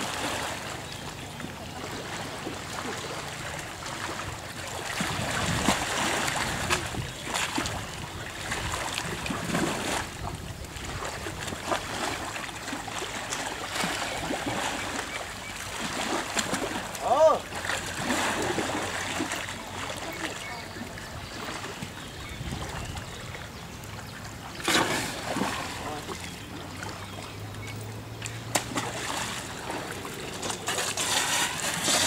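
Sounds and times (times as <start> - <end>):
elephant splashing in water: 0.0 - 21.9, 24.5 - 32.0.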